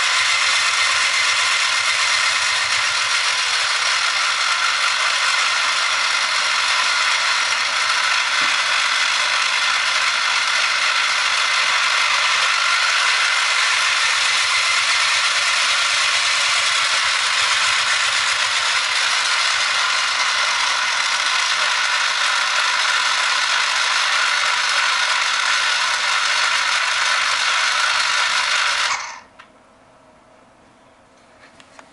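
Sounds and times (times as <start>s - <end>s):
small motor and gears running: 0.0s - 29.3s.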